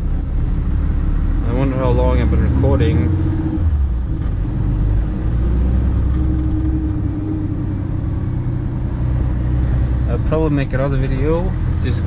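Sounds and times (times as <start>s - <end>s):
truck diesel engine rumbling: 0.0s - 12.0s.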